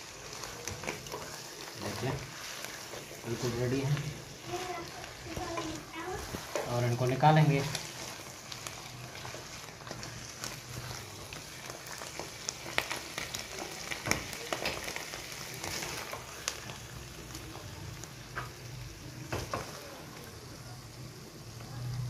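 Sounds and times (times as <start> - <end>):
greens sizzling faintly in a pot: 0.0 - 22.0.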